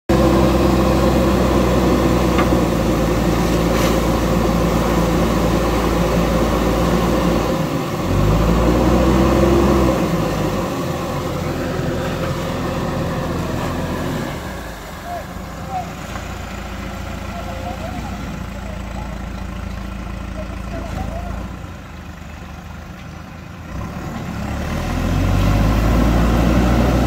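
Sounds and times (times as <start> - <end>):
diesel engine running: 0.1 - 27.0.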